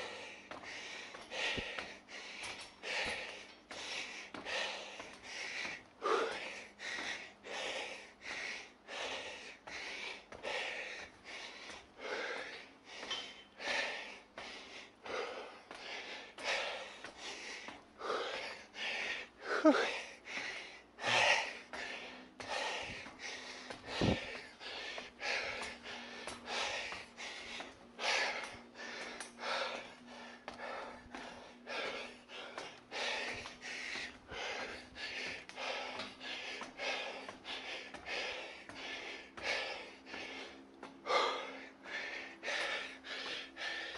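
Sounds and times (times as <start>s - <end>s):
person breathing hard: 0.0s - 43.9s.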